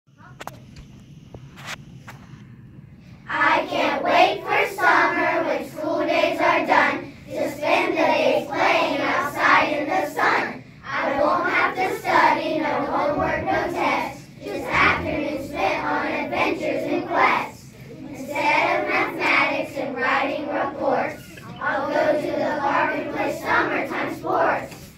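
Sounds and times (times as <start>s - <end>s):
young children singing together: 3.3s - 24.9s.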